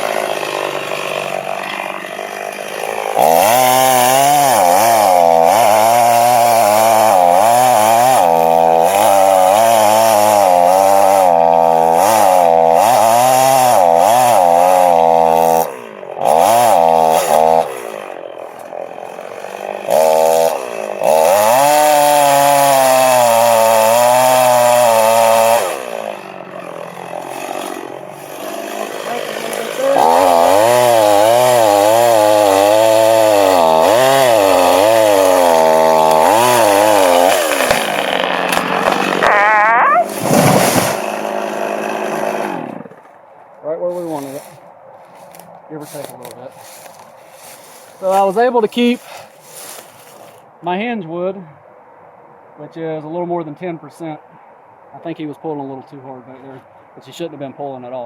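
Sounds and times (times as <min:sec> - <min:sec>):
chainsaw cutting tree trunk: 0:00.0 - 0:43.2, 0:43.9 - 0:50.4.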